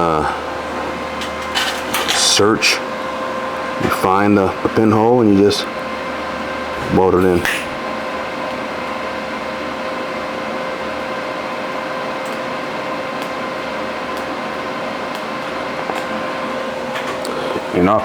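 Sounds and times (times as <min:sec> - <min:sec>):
constant hum: 0:00.0 - 0:18.0
welding arc hissing: 0:00.0 - 0:18.0.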